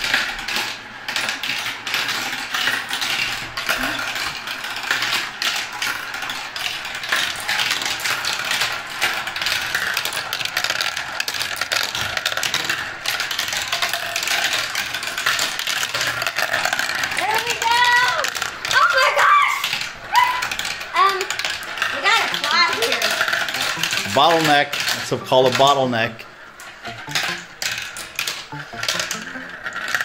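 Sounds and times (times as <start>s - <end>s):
glass marbles clattering: 0.0s - 30.0s.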